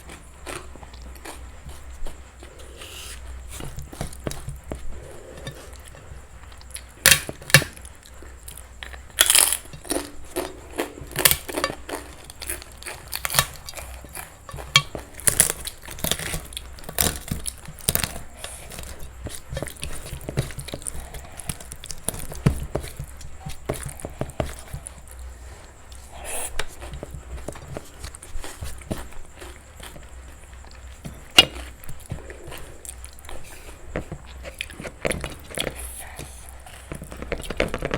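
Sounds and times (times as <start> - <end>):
crunching bites and chewing: 0.0 - 37.9.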